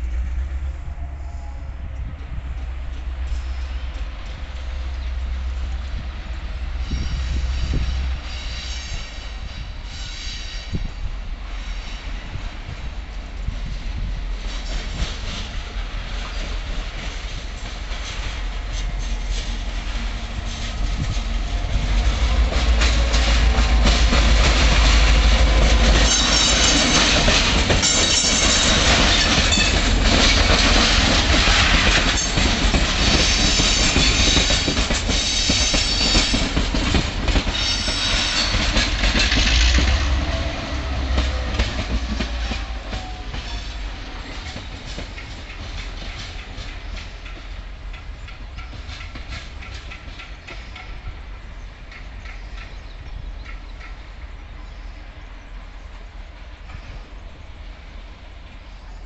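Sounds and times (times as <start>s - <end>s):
diesel locomotive engine rumble: 0.0s - 59.0s
train wheels clattering on rails: 1.9s - 54.8s.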